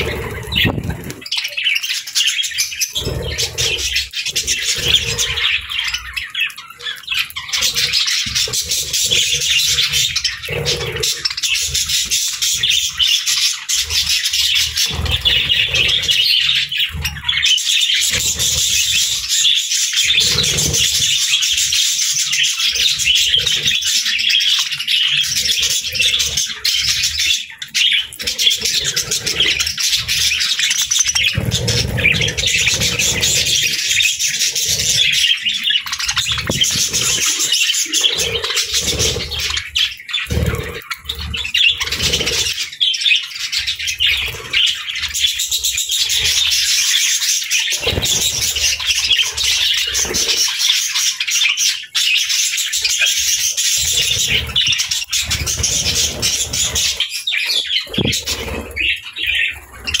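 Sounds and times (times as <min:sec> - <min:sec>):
small birds chirping and twittering: 0:00.0 - 1:00.0.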